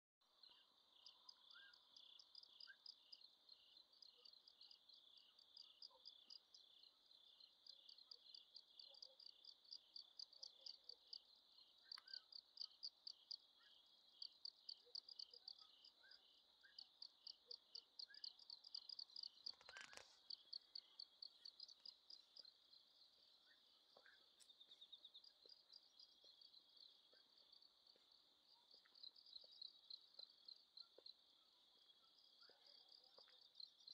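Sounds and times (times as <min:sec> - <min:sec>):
crickets chirping: 0:00.4 - 0:33.9.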